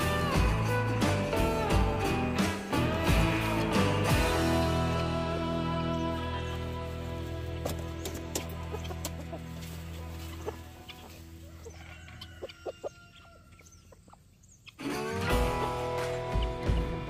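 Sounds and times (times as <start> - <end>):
background music: 0.0 - 13.4, 14.8 - 17.0
chickens clucking: 0.0 - 17.0.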